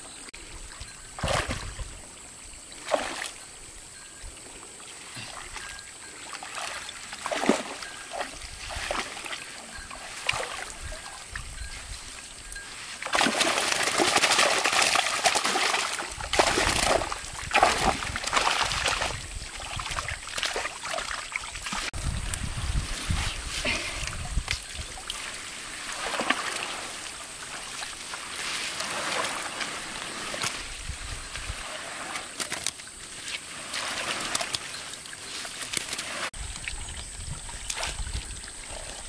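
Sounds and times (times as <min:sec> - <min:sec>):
water splashing and trickling: 0:00.3 - 0:39.0.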